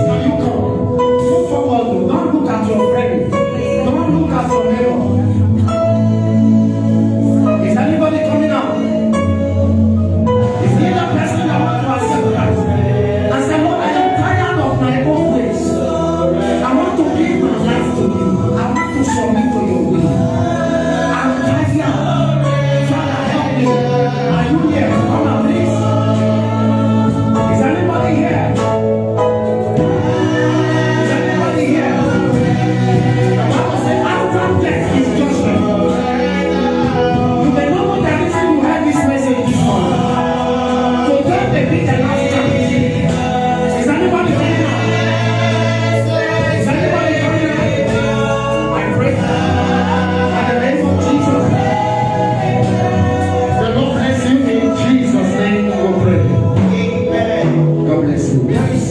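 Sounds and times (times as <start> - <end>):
band with held bass notes: 0.0 - 58.9
choir singing gospel: 0.0 - 58.9.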